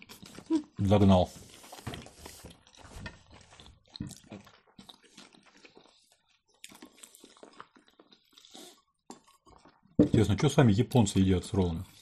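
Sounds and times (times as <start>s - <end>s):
chewing mouth noises: 0.0s - 10.0s.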